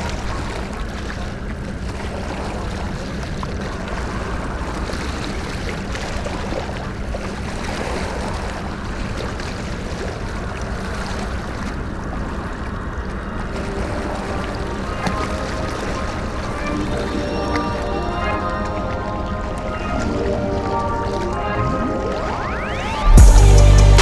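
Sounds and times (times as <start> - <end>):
even wash of noise: 0.0 - 24.0.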